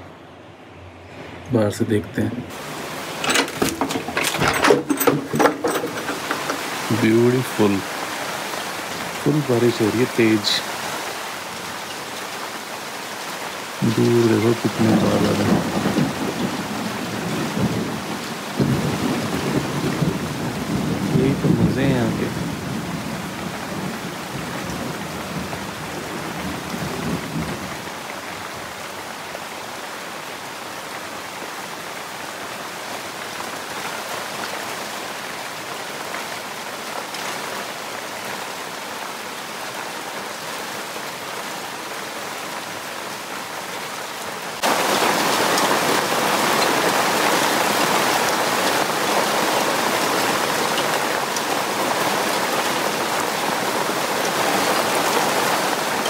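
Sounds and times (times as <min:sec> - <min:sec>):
heavy rain on trees: 0:00.0 - 0:56.0.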